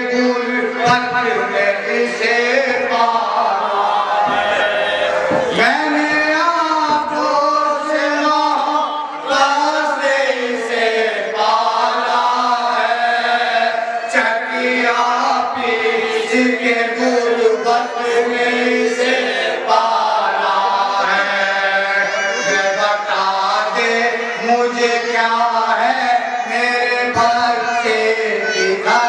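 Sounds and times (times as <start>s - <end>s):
men chanting a lament: 0.0s - 29.0s.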